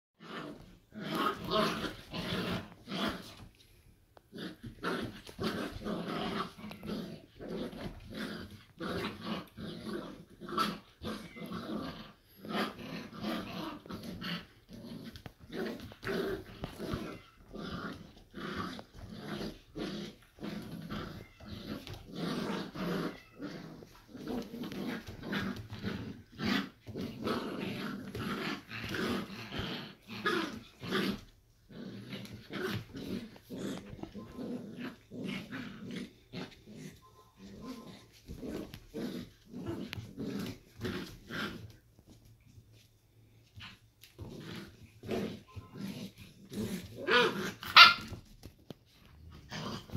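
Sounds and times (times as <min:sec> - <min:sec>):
puppies growling: 0:00.2 - 0:42.5.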